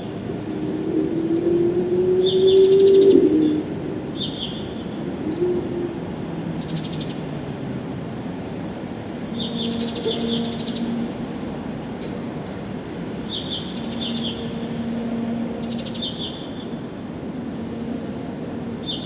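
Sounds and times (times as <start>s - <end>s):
songbird singing buzzy trill: 0.0s - 4.9s, 8.5s - 19.0s.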